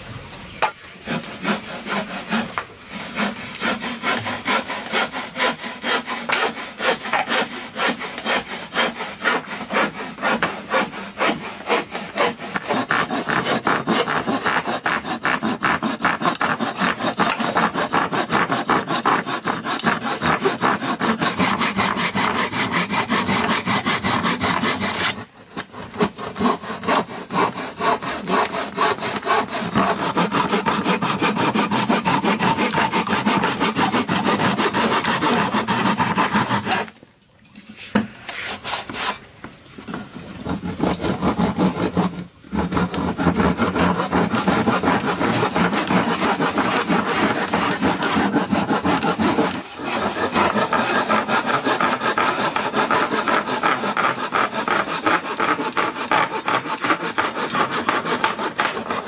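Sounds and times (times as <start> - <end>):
hand saw cutting wood: 0.5 - 37.0, 37.8 - 39.2, 39.8 - 59.0.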